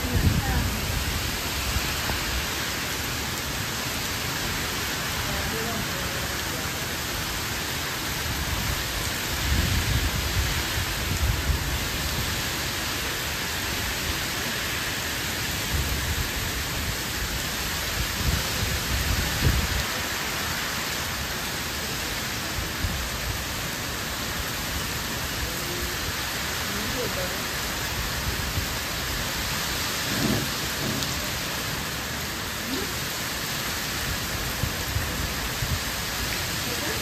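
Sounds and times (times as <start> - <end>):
heavy rain on trees and tiles: 0.0 - 37.0.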